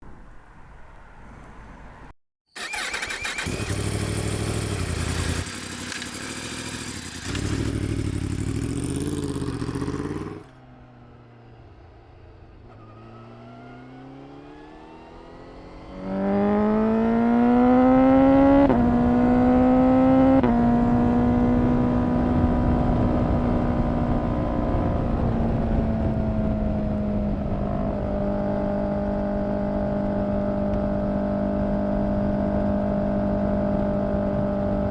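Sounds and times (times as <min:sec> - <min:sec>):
motorcycle engine accelerating: 0:02.6 - 0:10.7, 0:12.7 - 0:34.9.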